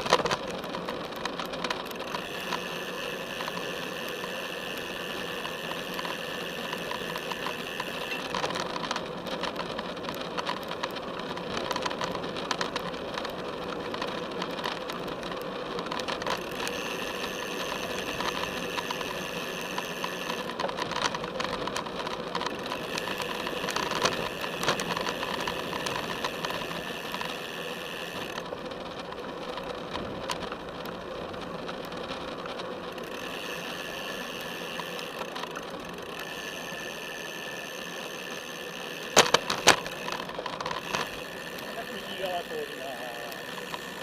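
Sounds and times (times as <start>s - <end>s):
bike clicks and rattles: 0.0s - 44.0s
bike tyre and road noise: 0.0s - 44.0s.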